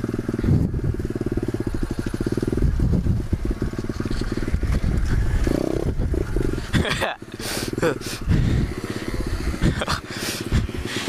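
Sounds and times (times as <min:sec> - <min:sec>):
pit bike engine running: 0:00.0 - 0:11.0.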